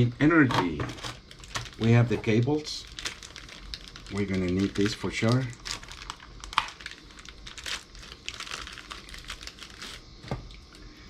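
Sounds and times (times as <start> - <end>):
plastic packaging crinkling: 0.8 - 10.6.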